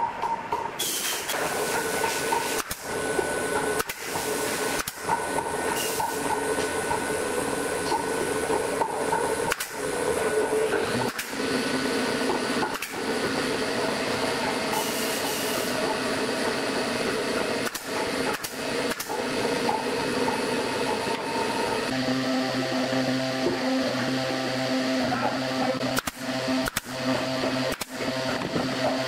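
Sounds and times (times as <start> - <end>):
machine humming and whirring: 0.0 - 29.0.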